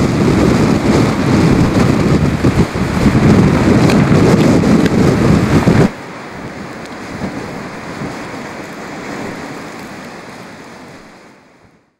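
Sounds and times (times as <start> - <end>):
storm wind rushing through building: 0.0 - 11.9.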